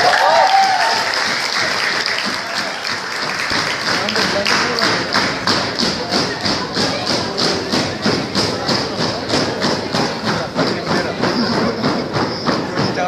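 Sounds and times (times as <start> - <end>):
audience clapping in unison: 0.0 - 13.0.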